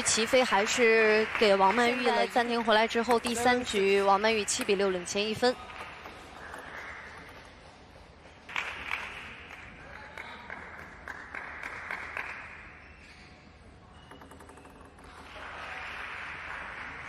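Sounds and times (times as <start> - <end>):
small audience clapping: 0.0 - 7.4, 8.5 - 12.7, 15.0 - 17.0.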